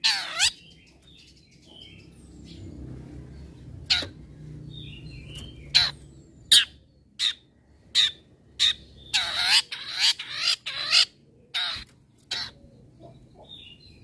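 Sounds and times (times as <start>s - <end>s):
bird harsh rasping calls: 0.0s - 2.0s, 3.8s - 13.8s.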